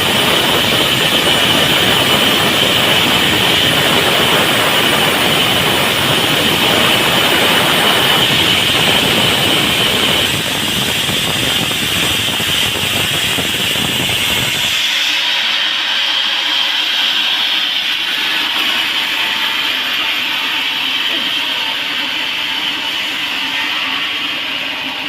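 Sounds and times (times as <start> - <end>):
sawmill saw cutting log: 0.0 - 25.0.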